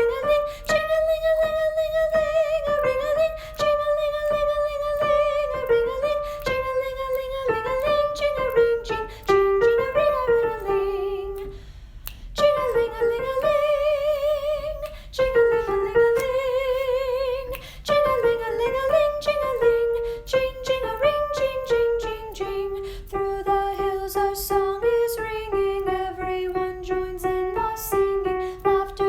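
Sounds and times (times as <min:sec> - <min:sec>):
soprano voice singing: 0:00.0 - 0:11.6, 0:12.4 - 0:29.0.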